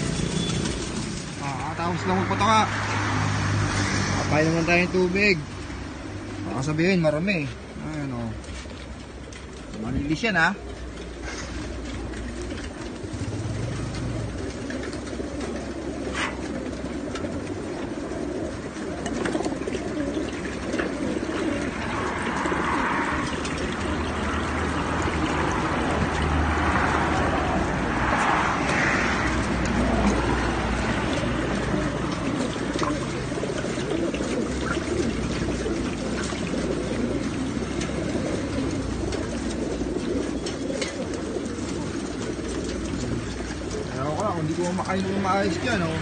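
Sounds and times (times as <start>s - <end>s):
pigeons cooing: 0.0s - 46.0s.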